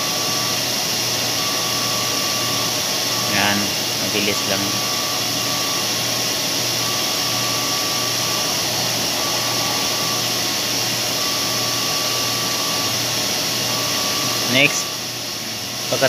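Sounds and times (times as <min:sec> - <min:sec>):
mechanical whir: 0:00.0 - 0:16.0.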